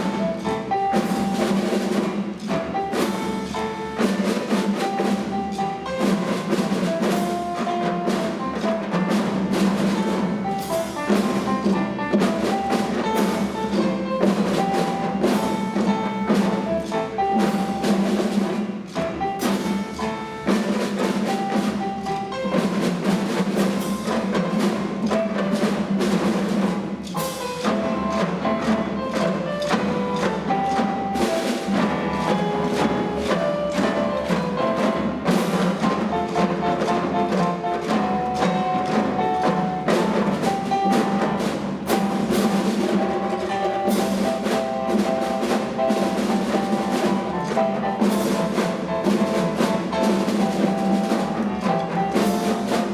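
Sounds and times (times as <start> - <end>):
drum and wood block percussion: 0.0 - 52.9
melody notes: 0.0 - 52.9.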